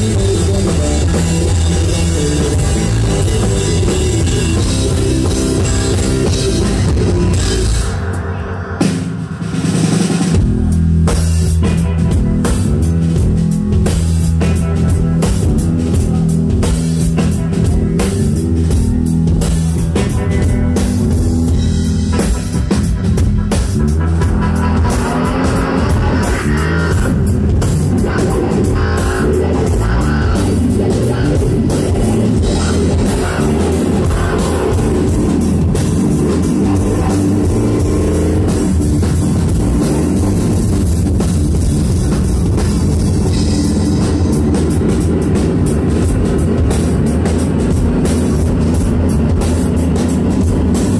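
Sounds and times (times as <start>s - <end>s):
drum kit playing a beat: 0.0s - 50.9s
loud electric guitar: 0.0s - 50.9s.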